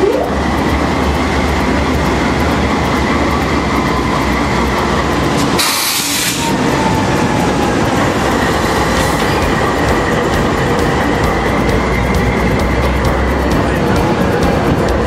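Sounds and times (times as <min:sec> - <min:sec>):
high tone from rails: 0:00.0 - 0:15.0
train rumbling: 0:00.0 - 0:15.0.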